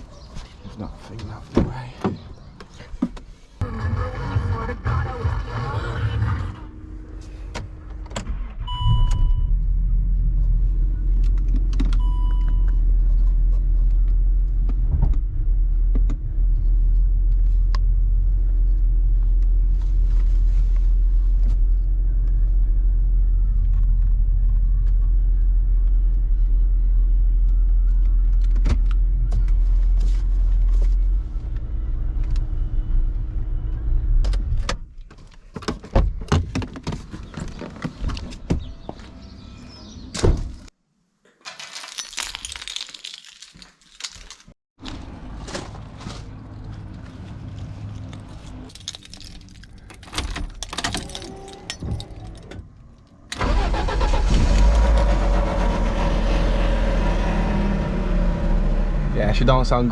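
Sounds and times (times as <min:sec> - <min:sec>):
car engine rumbling: 0:00.6 - 0:40.0, 0:44.0 - 0:59.9.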